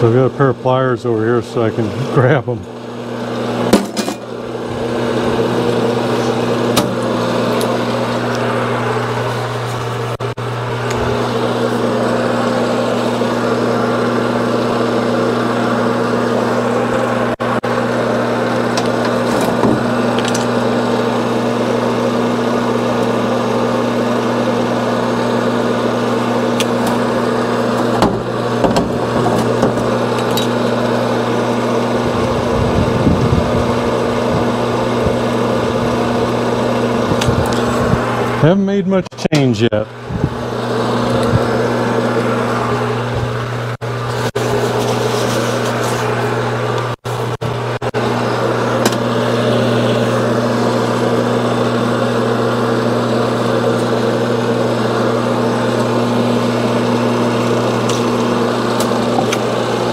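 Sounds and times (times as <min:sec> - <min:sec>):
electric motor humming: 0:00.0 - 0:39.0, 0:39.8 - 0:59.9.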